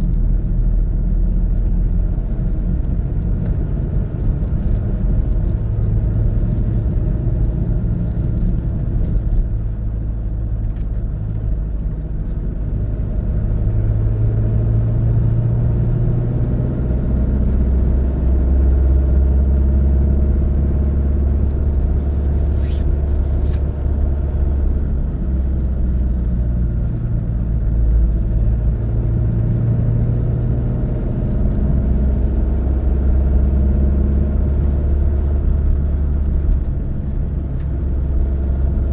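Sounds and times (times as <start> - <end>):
car engine: 0.0 - 38.9
road rumble: 0.0 - 38.9.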